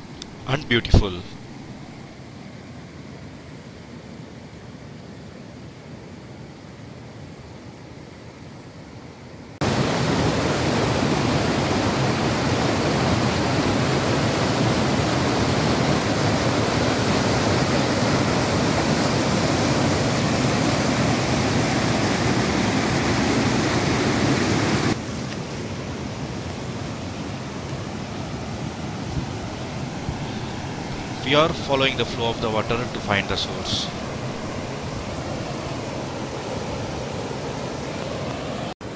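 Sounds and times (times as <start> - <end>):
stream rushing over rocks: 0.0 - 2.1, 9.6 - 38.9.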